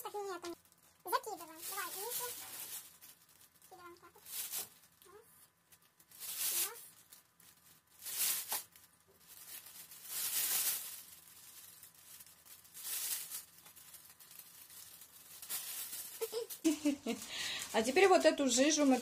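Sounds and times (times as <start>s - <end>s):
plastic sleeve crinkling: 0.0s - 19.0s.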